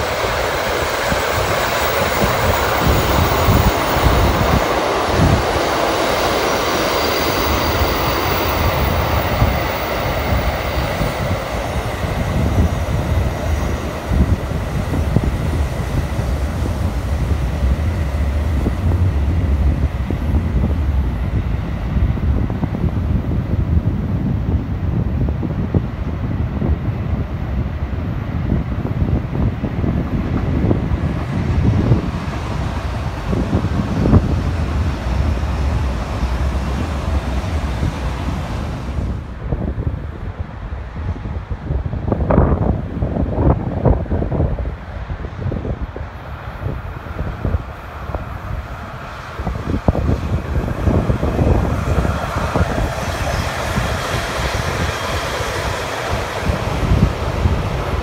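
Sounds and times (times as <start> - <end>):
train rumbling past: 0.0 - 58.0
wind buffeting microphone: 0.0 - 58.0.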